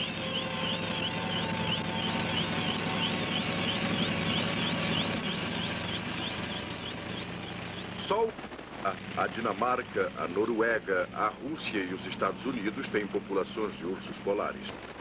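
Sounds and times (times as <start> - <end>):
helicopter engine hum: 0.0 - 15.0
helicopter rotor warbling whine: 0.0 - 15.0.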